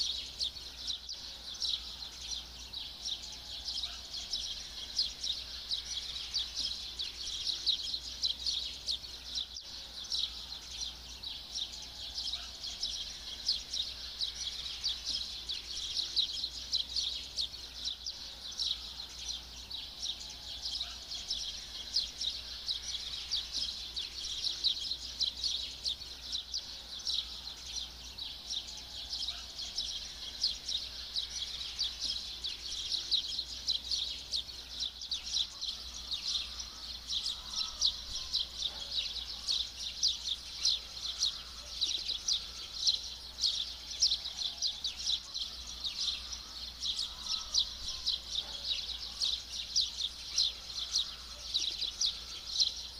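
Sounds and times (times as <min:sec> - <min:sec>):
small birds chirping chorus: 0:00.0 - 0:52.9.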